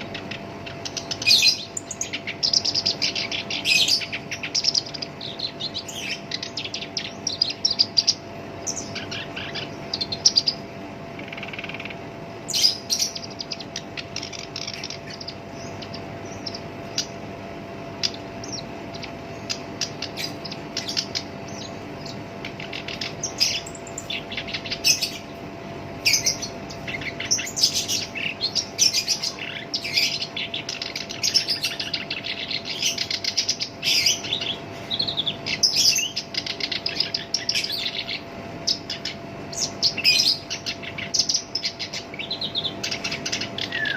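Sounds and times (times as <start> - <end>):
warbler chattering song: 0.0 - 43.9.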